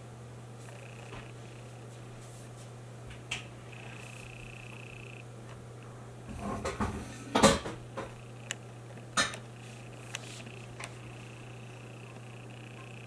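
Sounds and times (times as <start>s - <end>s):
faint high whine: 0.0s - 2.7s, 3.6s - 6.4s, 8.0s - 13.0s
steady low hum: 0.0s - 13.0s.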